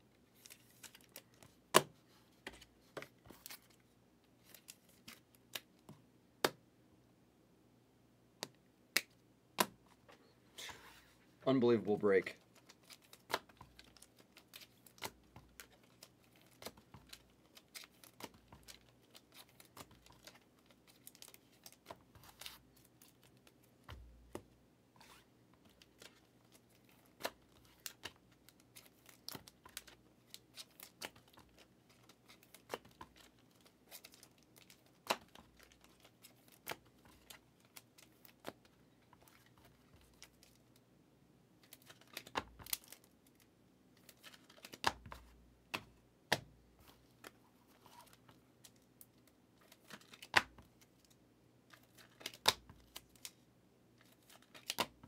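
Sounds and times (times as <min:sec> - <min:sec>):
cards and sleeves being handled: 0:00.3 - 0:06.6, 0:08.4 - 0:40.8, 0:41.6 - 0:53.4, 0:54.0 - 0:55.0.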